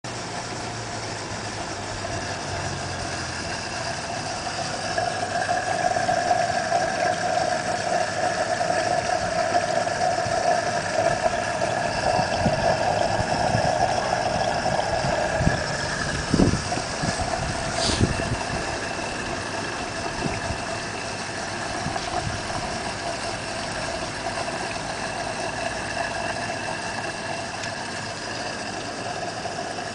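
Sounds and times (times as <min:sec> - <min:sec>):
water pouring from a pipe: 0:00.1 - 0:29.9
water pump motor hum: 0:00.1 - 0:29.9.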